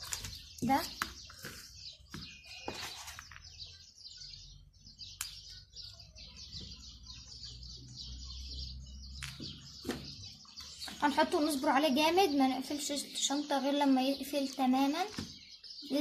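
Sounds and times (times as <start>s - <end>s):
small birds twittering: 0.0s - 16.0s.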